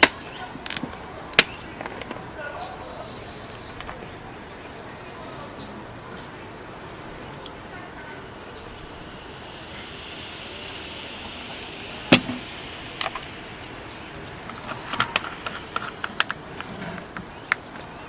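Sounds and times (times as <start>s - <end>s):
faint insect drone: 2.2s - 18.0s.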